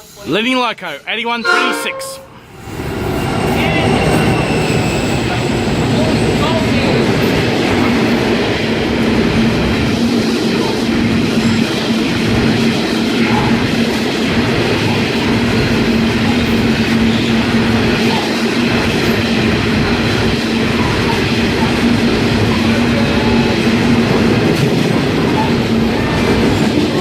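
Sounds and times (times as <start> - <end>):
freight train wheels rumbling: 1.4 - 27.0.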